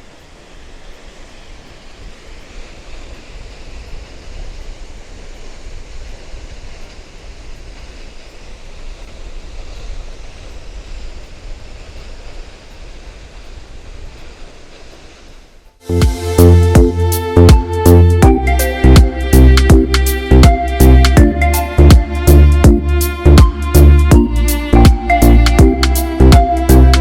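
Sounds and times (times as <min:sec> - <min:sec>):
waterfall roaring: 0:00.0 - 0:22.4
wind rumbling on microphone: 0:00.0 - 0:27.0.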